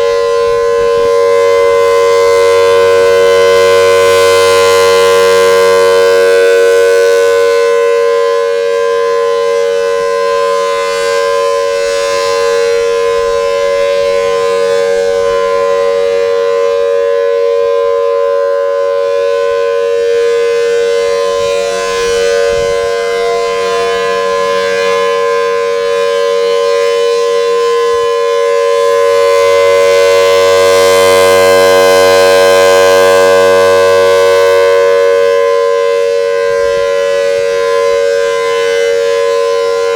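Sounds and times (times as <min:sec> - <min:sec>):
tornado siren: 0:00.0 - 0:39.9.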